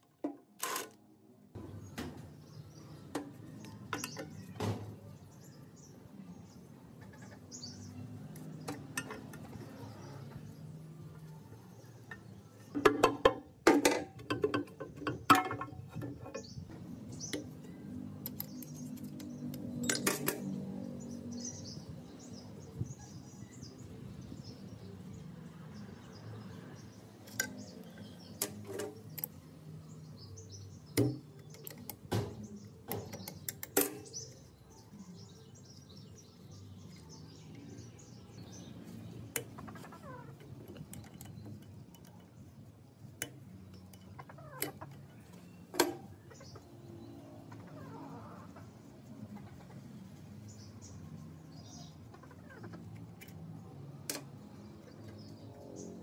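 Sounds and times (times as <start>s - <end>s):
birds chirping: 1.5s - 13.5s, 14.5s - 56.0s.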